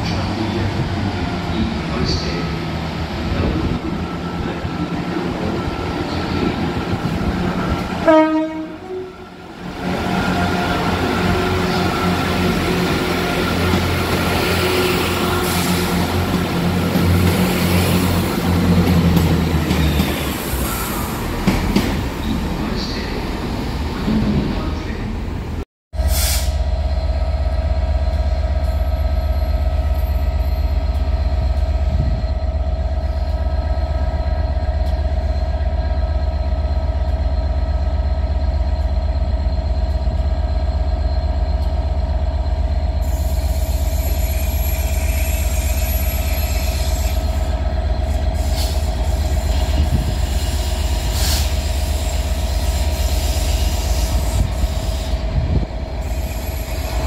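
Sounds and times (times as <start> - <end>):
train low drone: 0.0 - 57.0.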